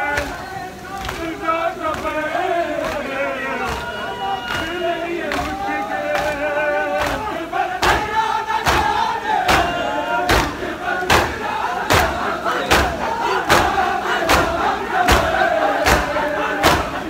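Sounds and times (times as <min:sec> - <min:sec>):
crowd chanting: 0:00.0 - 0:17.0
hands striking chests in unison: 0:00.0 - 0:17.0.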